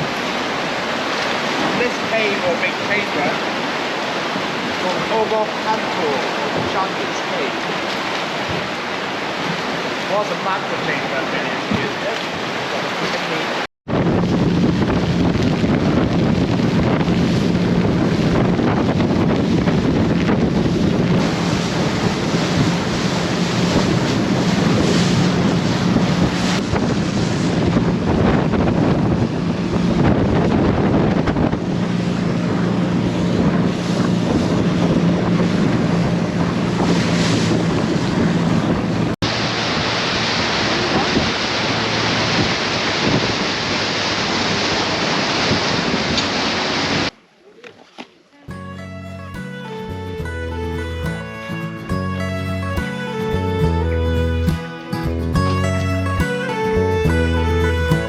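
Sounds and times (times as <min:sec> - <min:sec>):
wind buffeting microphone: 0:00.0 - 0:47.1
boat engine running: 0:00.0 - 0:58.0
sea water rushing: 0:00.0 - 0:58.0.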